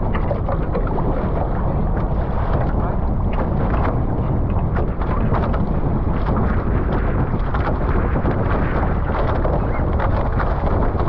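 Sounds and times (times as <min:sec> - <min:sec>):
water rushing past hulls: 0:00.0 - 0:11.0
wind buffeting microphone: 0:00.0 - 0:11.0.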